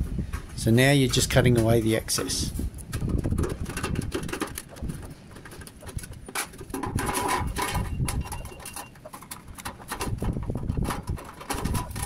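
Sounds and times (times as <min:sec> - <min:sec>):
loose metal rattling: 0:00.6 - 0:12.0.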